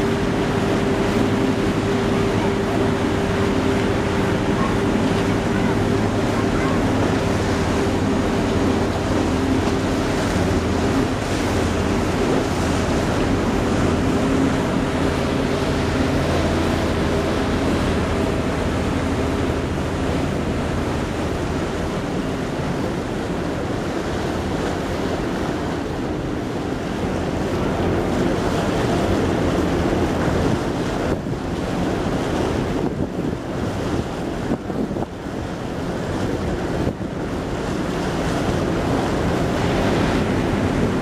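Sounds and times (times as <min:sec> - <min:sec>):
low engine hum: 0:00.0 - 0:41.0
water washing past boat: 0:00.0 - 0:41.0
wind rushing over microphone: 0:00.0 - 0:41.0.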